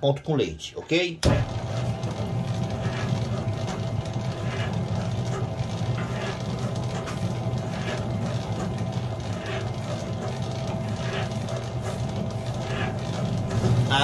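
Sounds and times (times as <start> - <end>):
dough mixer motor humming: 1.2 - 14.0
dough swishing in mixer: 1.3 - 14.0.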